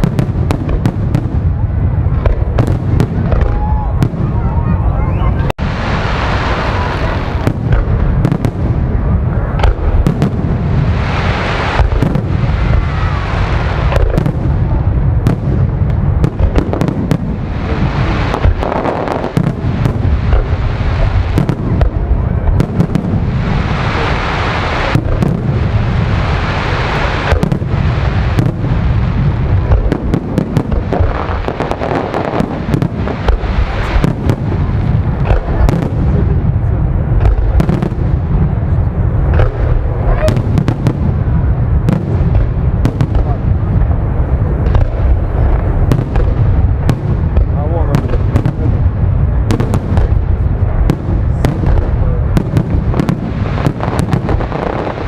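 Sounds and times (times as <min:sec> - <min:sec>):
continuous low rumble: 0:00.0 - 0:55.0
fireworks bursting: 0:00.0 - 0:55.0.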